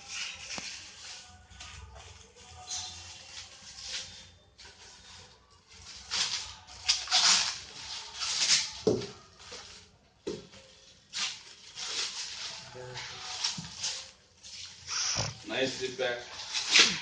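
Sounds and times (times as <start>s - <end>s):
packaging rustling and scraping: 0.0s - 17.0s.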